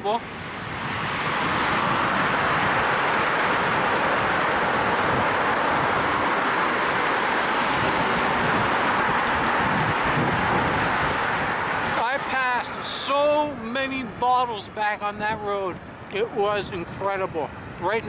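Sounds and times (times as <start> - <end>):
steady road noise: 0.0 - 18.0.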